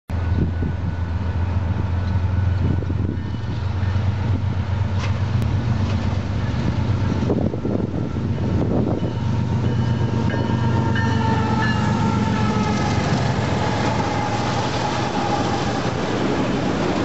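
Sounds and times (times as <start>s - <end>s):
distant train locomotive rumble: 0.1s - 17.0s.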